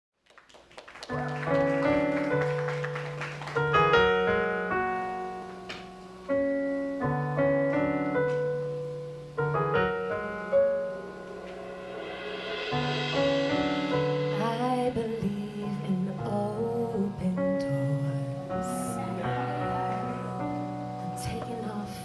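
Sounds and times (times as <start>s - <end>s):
keyboard piano chords: 1.1s - 22.0s.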